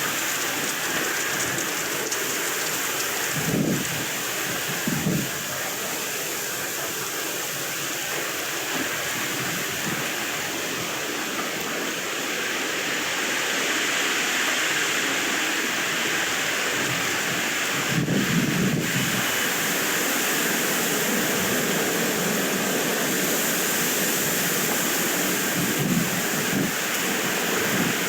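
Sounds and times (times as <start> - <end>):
wind buffeting microphone: 0.0 - 11.1, 16.6 - 28.0
wind rushing hiss: 0.0 - 28.0.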